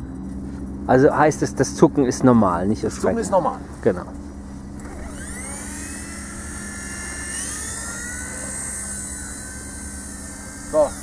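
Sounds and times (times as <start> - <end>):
rc helicopter motor and rotor whine: 0.2 - 11.0.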